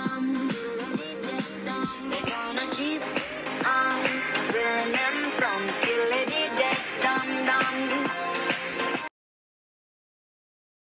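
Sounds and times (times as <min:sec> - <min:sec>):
background music with steady beat: 0:00.0 - 0:09.1.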